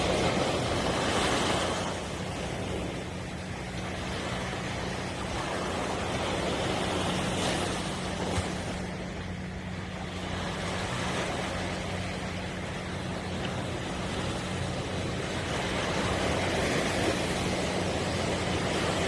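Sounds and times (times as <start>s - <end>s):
low engine hum: 0.0s - 19.0s
surf washing onto shore: 0.0s - 19.0s.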